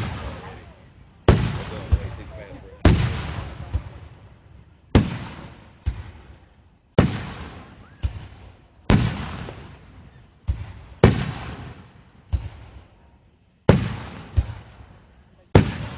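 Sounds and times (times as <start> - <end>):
firework booms with echo: 0.0 - 13.0, 13.6 - 15.9.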